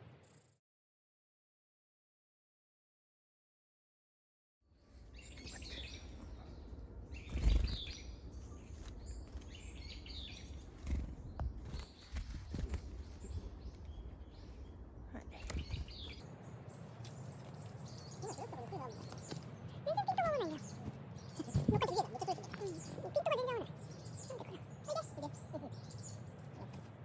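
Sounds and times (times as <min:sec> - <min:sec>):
birds chirping: 0:04.8 - 0:27.0.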